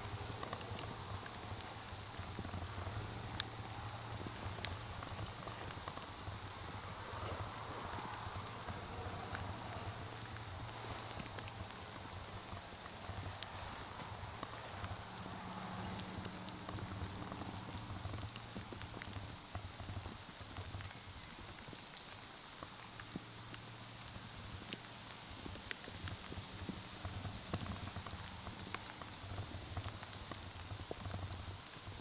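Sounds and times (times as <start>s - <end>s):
light rain pattering: 0.0s - 32.0s
raindrops ticking close by: 0.0s - 32.0s.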